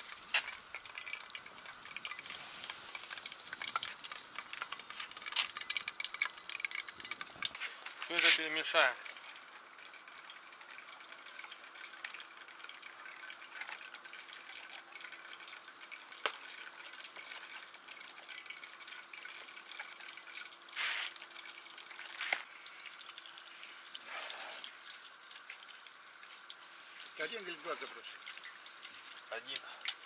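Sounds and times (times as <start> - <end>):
wet squelching and dripping: 0.0 - 30.0.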